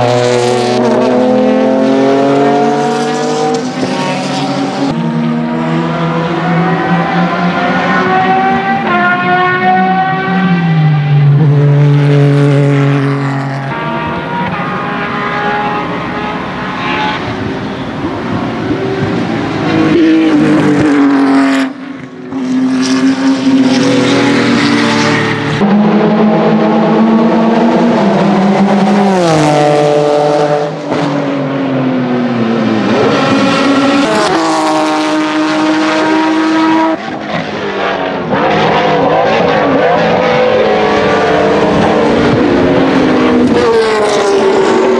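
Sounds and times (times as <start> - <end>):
race car engines at high revs: 0.0 - 44.9.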